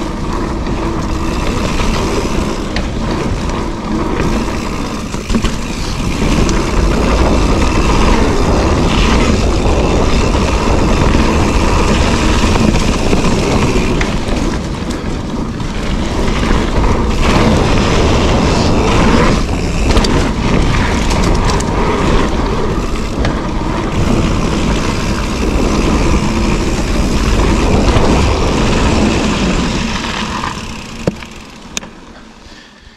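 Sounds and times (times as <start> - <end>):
wind buffeting microphone: 0.0 - 31.8
bike clicks and knocks: 0.0 - 32.3
bike tyres rolling over dirt: 0.0 - 32.9.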